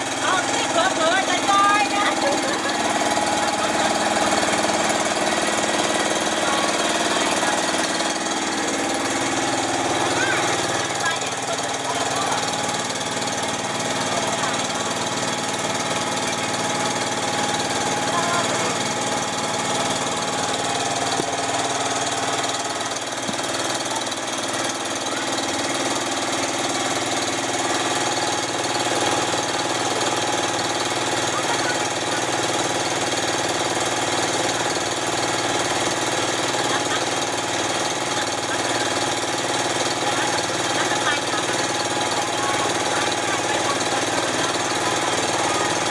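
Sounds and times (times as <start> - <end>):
engine droning steadily: 0.0 - 45.9.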